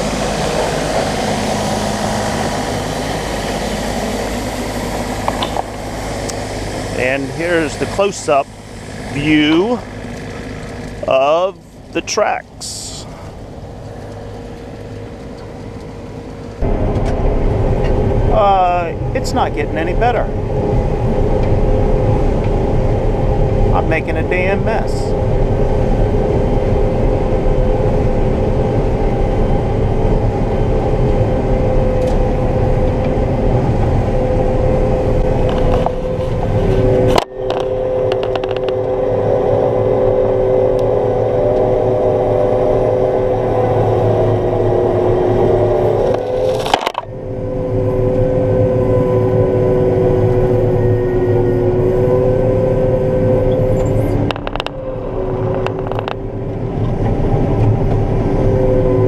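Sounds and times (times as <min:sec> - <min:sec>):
combine harvester engine rumble: 0:00.0 - 0:59.0
two-note mechanical whine: 0:00.0 - 0:59.0.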